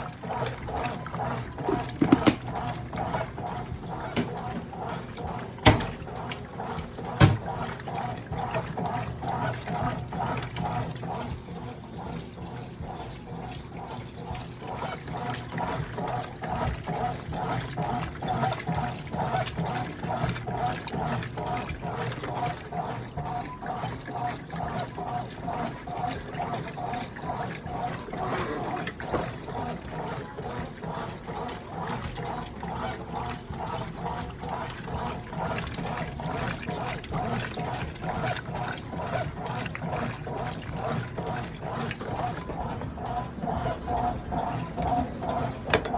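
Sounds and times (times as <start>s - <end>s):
washing machine water sloshing: 0.0s - 45.9s.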